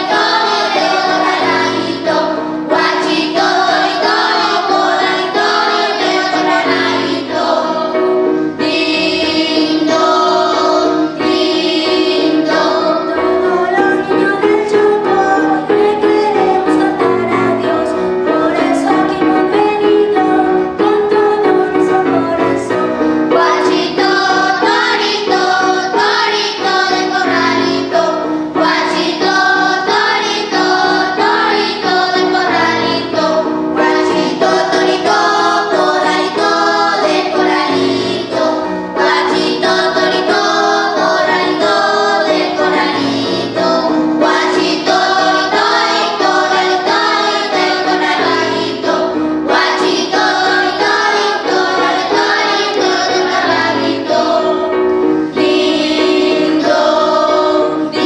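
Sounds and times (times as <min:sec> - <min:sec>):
children's choir singing: 0:00.0 - 0:58.0
women singing: 0:00.0 - 0:58.0.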